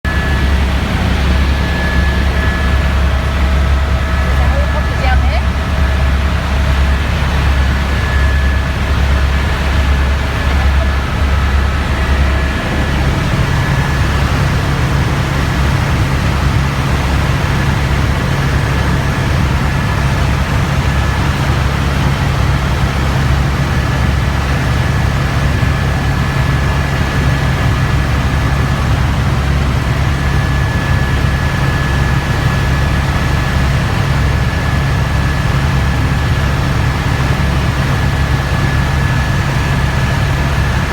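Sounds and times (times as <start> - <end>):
helicopter engine and rotor noise: 0.0 - 40.9
high steady whine: 0.0 - 40.9.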